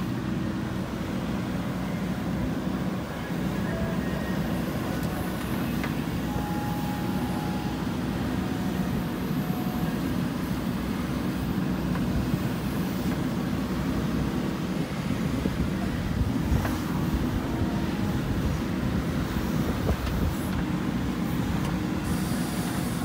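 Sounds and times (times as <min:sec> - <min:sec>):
diesel engine running: 0:00.0 - 0:23.0
faint whine: 0:00.0 - 0:23.0.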